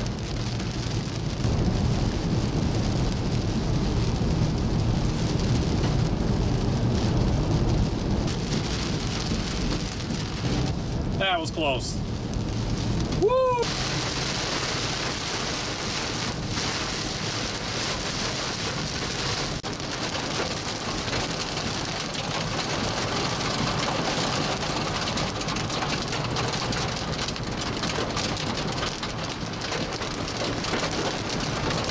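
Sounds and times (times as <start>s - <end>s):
heavy rain on a vehicle: 0.0s - 31.9s.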